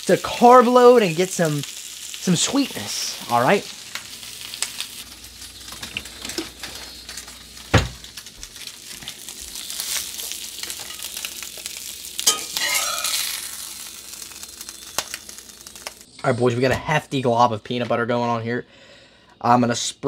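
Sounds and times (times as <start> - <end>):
meat sizzling in a frying pan: 0.0 - 16.2.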